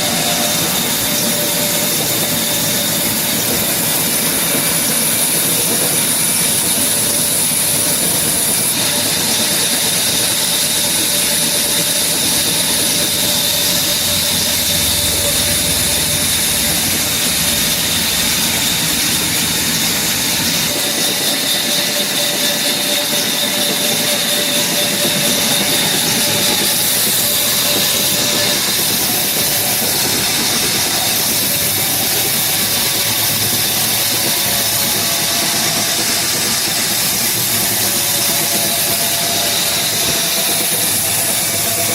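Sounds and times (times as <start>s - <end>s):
power saw cutting wood: 0.0s - 41.9s.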